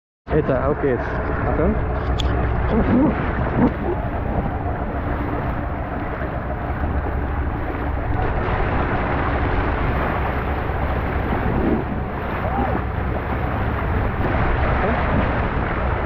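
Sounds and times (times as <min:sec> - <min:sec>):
water rushing past boat: 0:00.3 - 0:16.0
wind buffeting microphone: 0:00.3 - 0:16.0.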